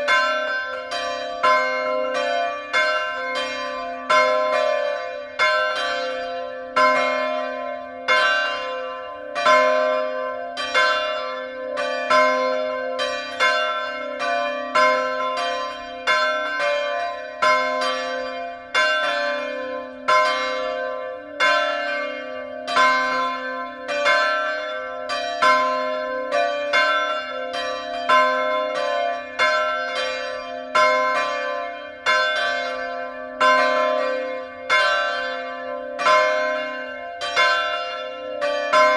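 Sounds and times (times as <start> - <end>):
church bells ringing in peal: 0.0 - 38.9.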